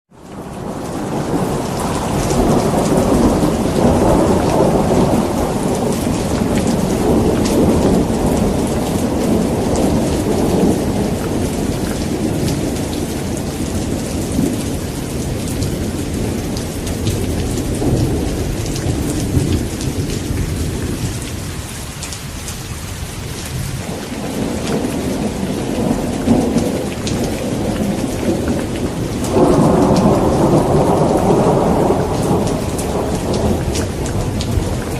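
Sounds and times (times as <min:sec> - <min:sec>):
heavy rain falling: 0:00.1 - 0:34.9
rolling thunder: 0:00.4 - 0:34.9.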